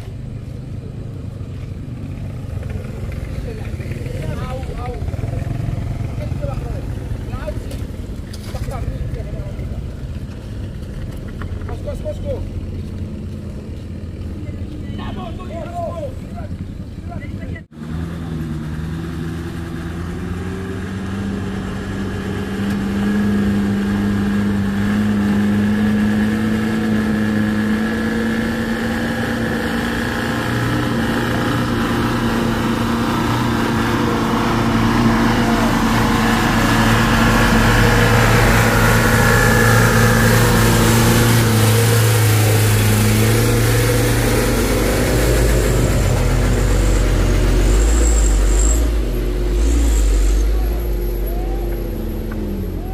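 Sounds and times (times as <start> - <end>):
truck diesel engines labouring: 0.0 - 52.9.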